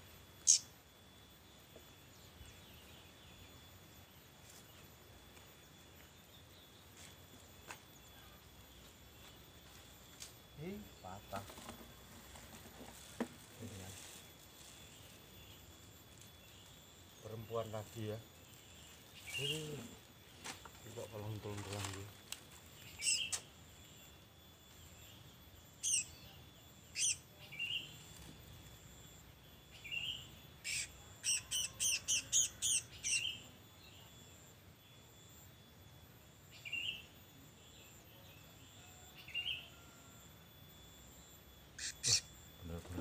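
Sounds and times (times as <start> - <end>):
small bird chirping: 0.0 - 11.4, 12.9 - 40.0, 40.6 - 43.0.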